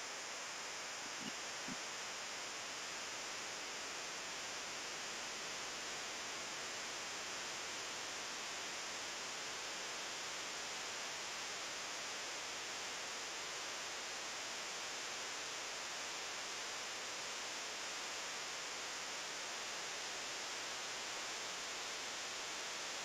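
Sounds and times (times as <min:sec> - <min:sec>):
recording noise hiss: 0:00.0 - 0:23.0.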